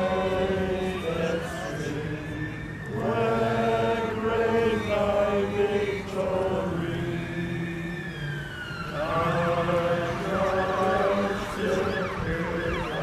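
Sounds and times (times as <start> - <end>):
crowd singing a hymn: 0.0 - 13.0
emergency vehicle siren wailing: 0.0 - 13.0.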